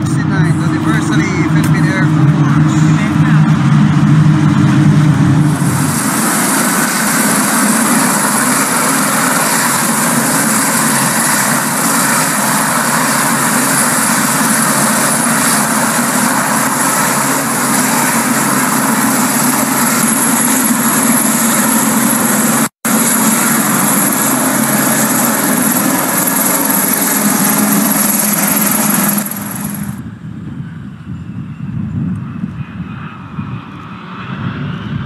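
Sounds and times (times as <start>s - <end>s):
helicopter hovering: 0.0s - 35.0s.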